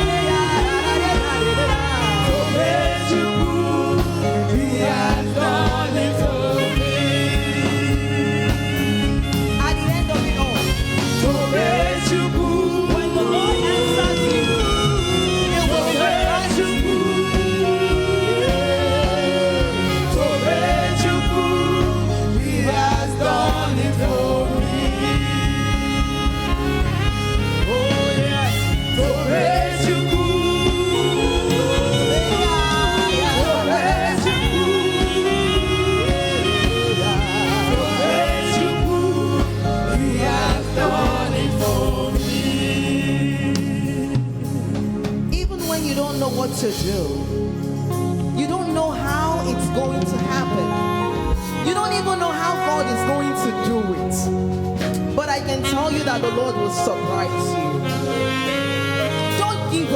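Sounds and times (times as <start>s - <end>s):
gospel singing with band: 0.0s - 59.9s.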